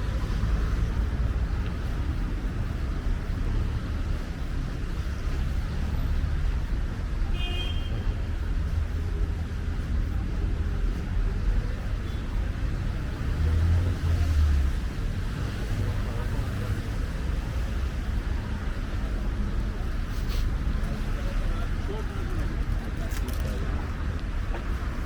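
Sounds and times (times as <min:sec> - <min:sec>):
city traffic rumble: 0:00.0 - 0:25.0.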